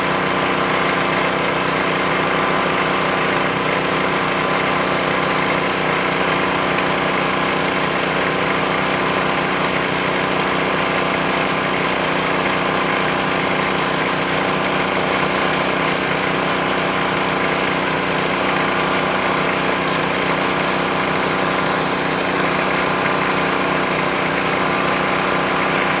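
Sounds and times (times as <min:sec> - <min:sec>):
drilling machine engine running: 0:00.0 - 0:26.0.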